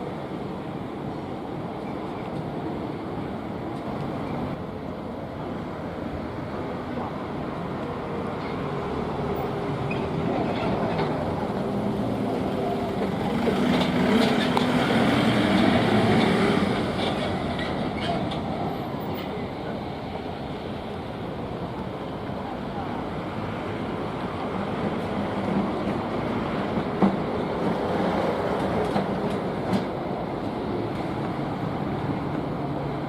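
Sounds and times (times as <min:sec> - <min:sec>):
traffic noise: 0:00.0 - 0:33.0.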